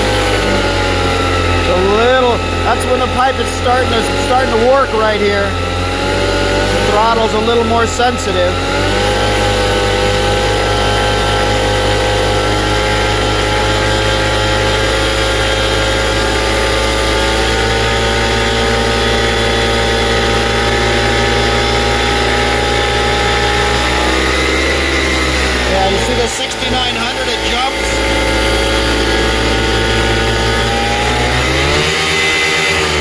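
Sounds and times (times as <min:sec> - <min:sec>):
paramotor engine running: 0:00.0 - 0:33.0.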